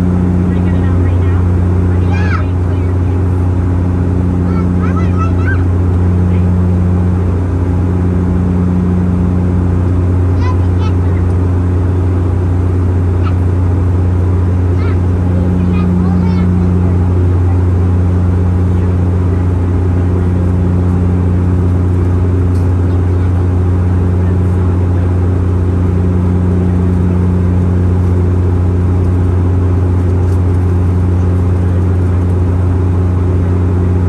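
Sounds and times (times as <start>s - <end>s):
propeller aircraft cabin drone: 0.0s - 34.0s.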